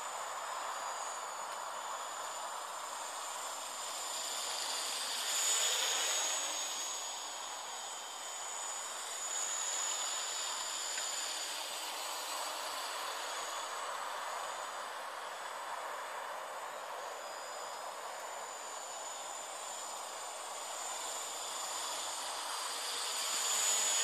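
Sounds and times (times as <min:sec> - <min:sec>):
drone propellers whining: 0:00.0 - 0:24.0
steady hiss: 0:00.0 - 0:24.0.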